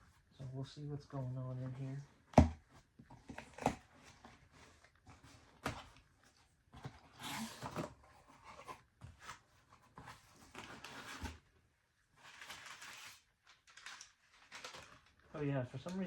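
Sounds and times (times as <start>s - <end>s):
cardboard rustling and scraping: 1.5s - 15.2s.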